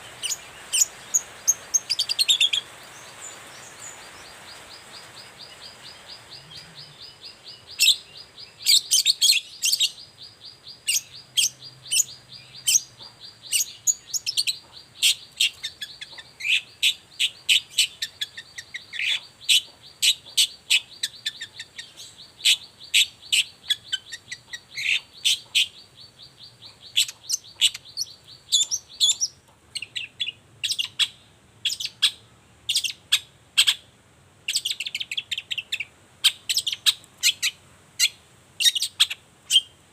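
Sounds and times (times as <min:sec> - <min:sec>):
fast steady bird trill: 0:00.0 - 0:33.9, 0:34.5 - 0:39.8.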